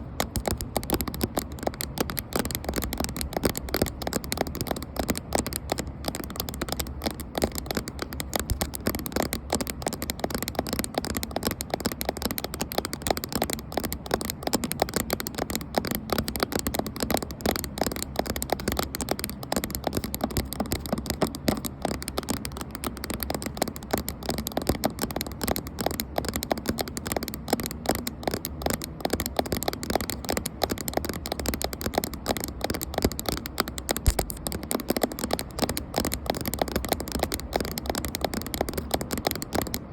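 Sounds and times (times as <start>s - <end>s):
fast tapping on a camera: 0.0s - 39.9s.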